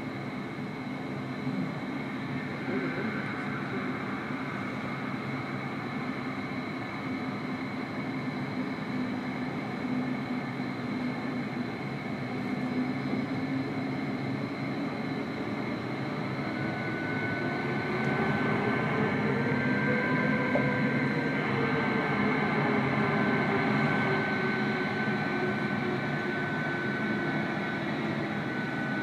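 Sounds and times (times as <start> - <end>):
higher engine whine: 0.0 - 29.0
jet engines whining: 0.0 - 29.0.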